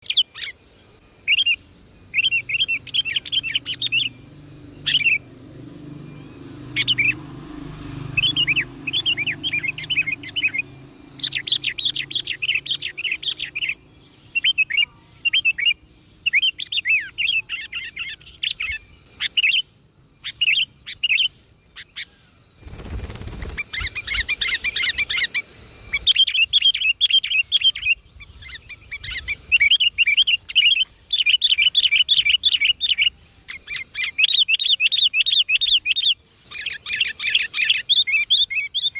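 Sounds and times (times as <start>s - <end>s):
small birds twittering: 0.0s - 38.9s.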